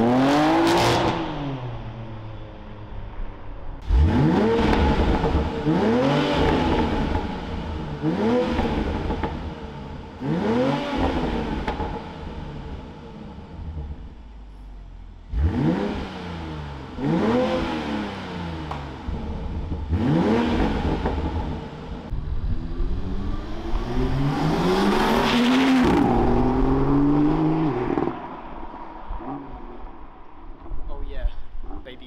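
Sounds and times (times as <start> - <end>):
car engine revving: 0.0 - 2.1, 3.8 - 30.8.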